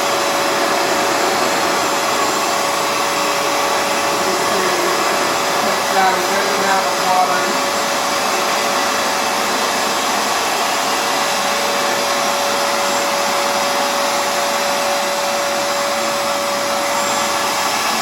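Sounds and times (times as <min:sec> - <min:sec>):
floor cleaner motor whine: 0:00.0 - 0:18.0.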